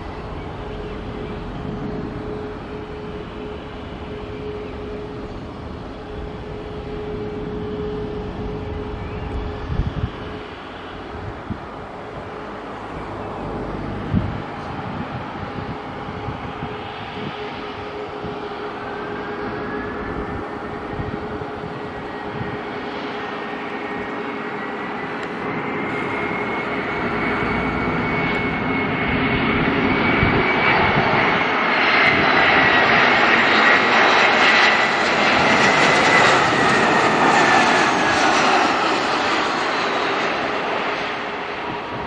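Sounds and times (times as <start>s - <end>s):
high whine: 0.0s - 42.0s
jet airliner engines whining: 0.0s - 42.0s.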